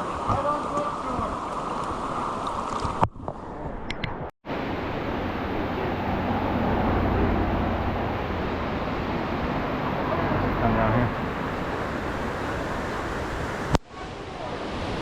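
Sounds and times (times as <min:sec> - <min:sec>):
river rapids rushing: 0:00.0 - 0:02.8, 0:04.5 - 0:15.0.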